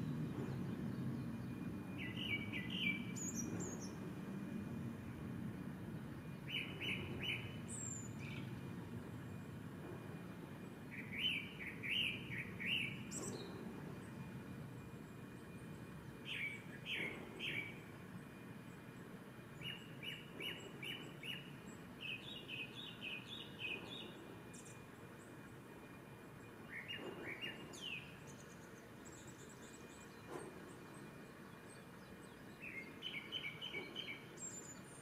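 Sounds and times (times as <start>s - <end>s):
thrush singing whistled notes: 0.0s - 4.1s, 6.0s - 8.8s, 10.8s - 18.8s, 19.5s - 25.5s, 26.4s - 35.0s.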